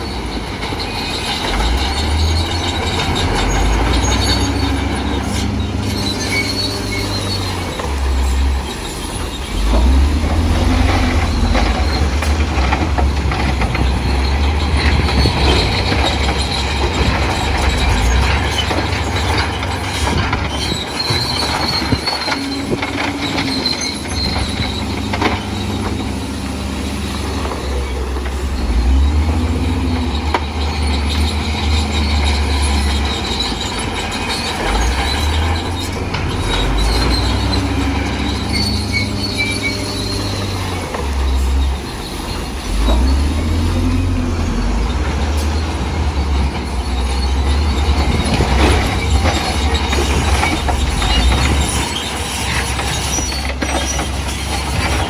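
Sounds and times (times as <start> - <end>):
diesel engine under load: 0.0 - 55.0
steel tracks squealing and clanking: 0.0 - 55.0.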